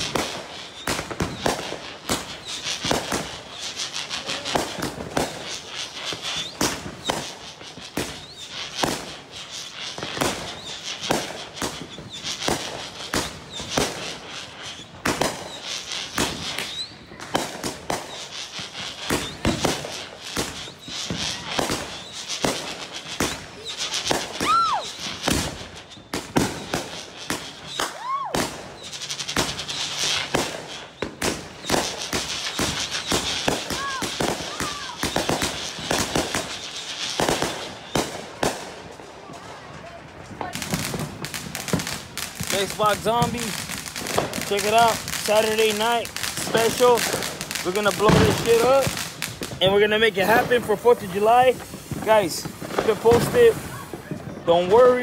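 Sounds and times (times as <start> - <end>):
firework whistles: 0.0 - 55.0
fireworks popping and crackling: 0.0 - 55.0.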